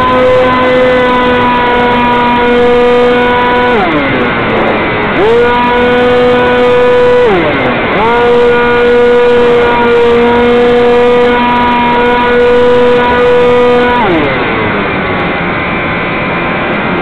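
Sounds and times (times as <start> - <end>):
model plane motor whining: 0.0 - 15.4.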